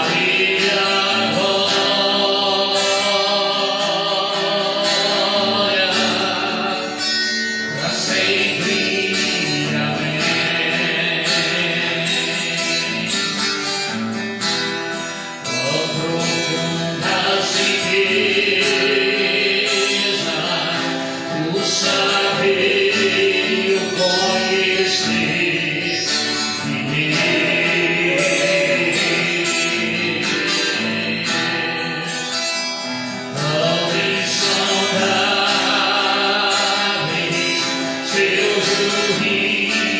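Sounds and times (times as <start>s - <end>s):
gospel singing with accompaniment: 0.0s - 39.9s.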